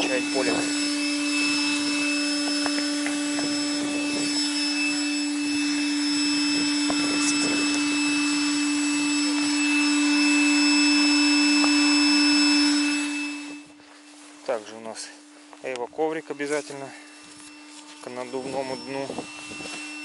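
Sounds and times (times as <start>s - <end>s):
electric air pump humming: 0.0s - 20.0s.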